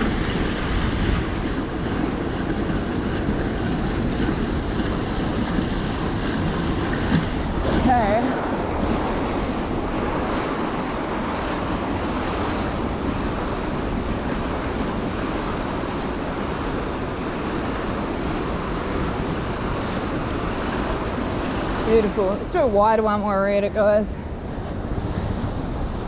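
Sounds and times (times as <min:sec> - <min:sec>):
fountain water splashing: 0:00.0 - 0:24.0
wind rumbling on microphone: 0:00.0 - 0:26.0.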